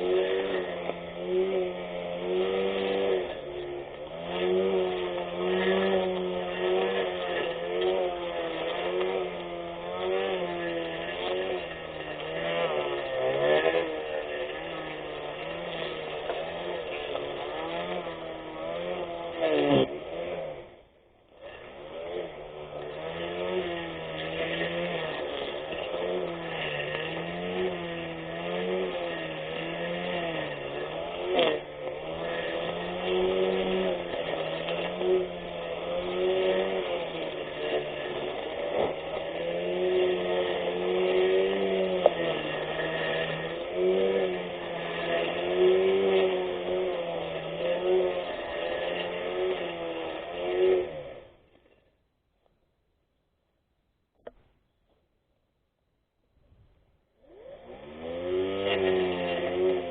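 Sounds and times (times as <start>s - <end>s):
electric grass cutter motor: 0.0s - 52.0s, 57.1s - 59.9s.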